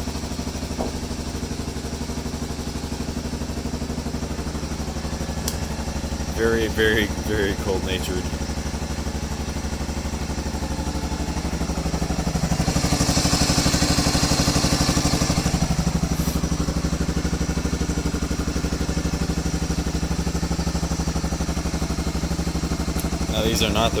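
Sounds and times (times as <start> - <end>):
atv engine idling: 0.0 - 24.0.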